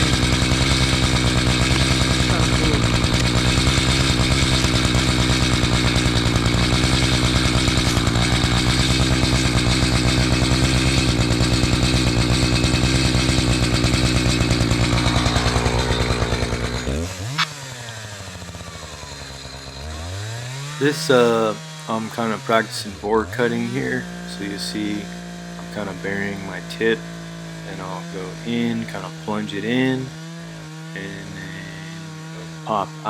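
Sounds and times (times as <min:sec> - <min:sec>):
chainsaw cutting log: 0:00.0 - 0:33.0.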